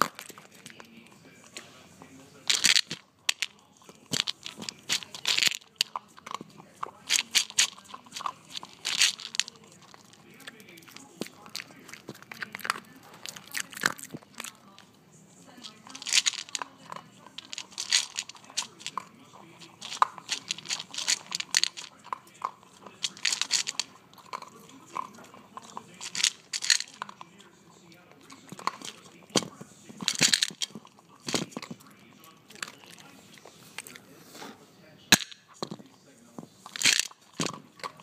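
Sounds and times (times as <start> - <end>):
crunching and chewing food: 0.0 - 1.7, 2.4 - 34.5, 35.2 - 38.0.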